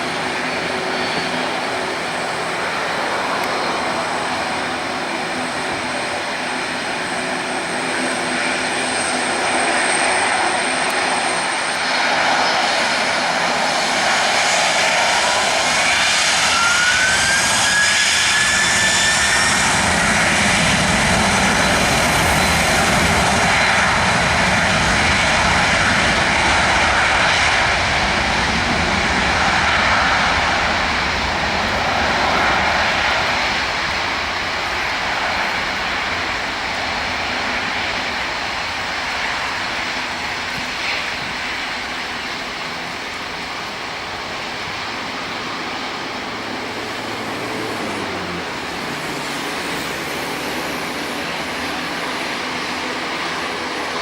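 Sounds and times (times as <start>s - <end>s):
jet engines roaring: 0.0s - 54.0s
rising engine whine: 0.0s - 54.0s.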